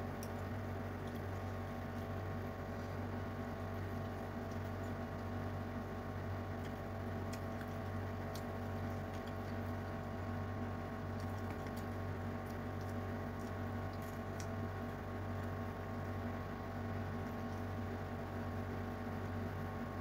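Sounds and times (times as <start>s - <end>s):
wet chewing: 0.0s - 18.5s.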